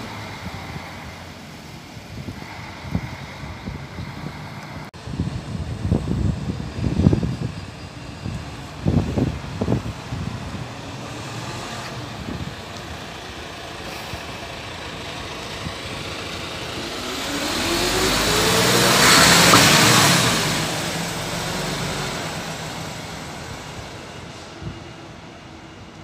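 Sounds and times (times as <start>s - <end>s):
bus engine accelerating: 0.0s - 26.0s.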